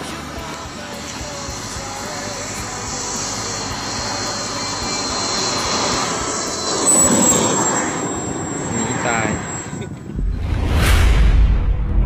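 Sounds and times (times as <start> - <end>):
model jet motor whining: 0.0 - 10.1
rushing noise: 1.2 - 12.0.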